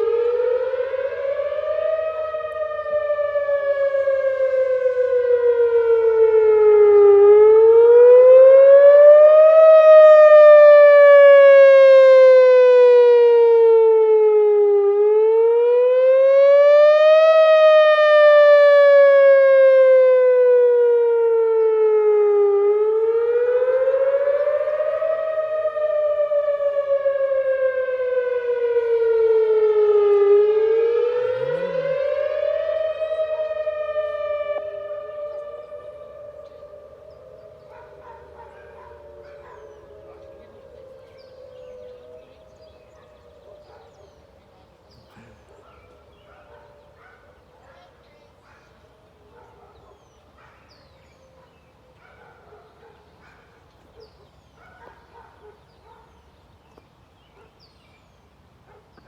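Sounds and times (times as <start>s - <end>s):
outdoor warning siren wail: 0.0s - 58.8s.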